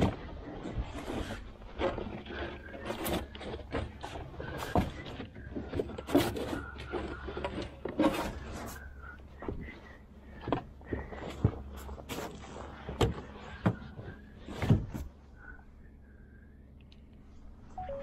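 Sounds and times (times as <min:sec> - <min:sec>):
knocks and scraping of handled objects: 0:00.0 - 0:15.2.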